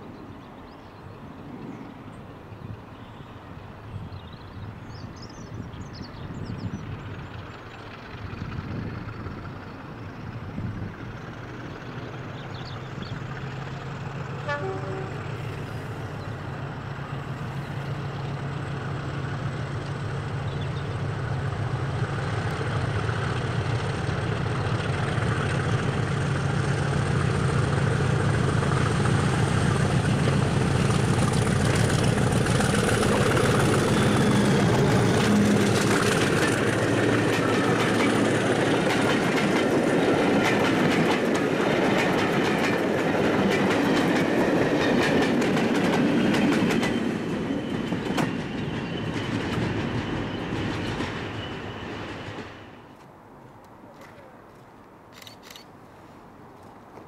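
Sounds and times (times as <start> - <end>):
diesel locomotive engine: 0.0 - 57.0
train wheels on rails: 3.7 - 57.0.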